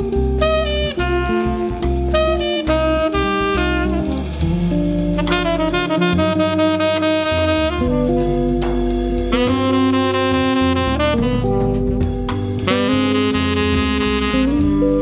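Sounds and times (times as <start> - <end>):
drum kit: 0.0 - 15.0
saxophone melody: 0.0 - 15.0
walking bass: 0.0 - 15.0.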